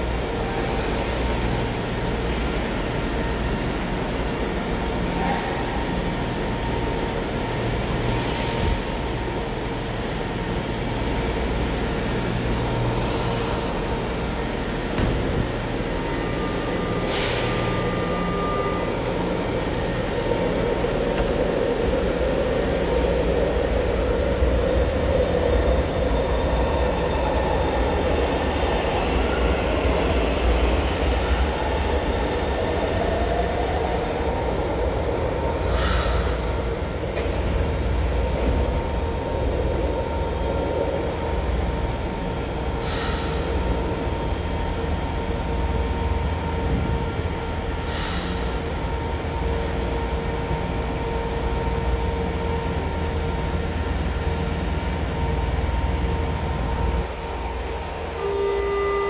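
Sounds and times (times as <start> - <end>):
train pulling out: 0.0 - 59.0.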